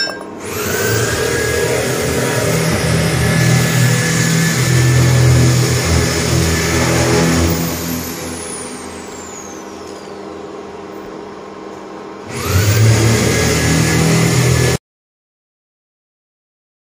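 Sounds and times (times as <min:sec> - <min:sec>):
machine hum: 0:00.0 - 0:14.8.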